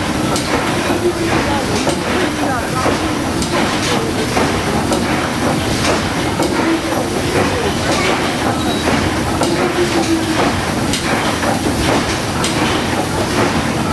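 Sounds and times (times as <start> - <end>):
steam boat engine strokes: 0.0 - 13.9.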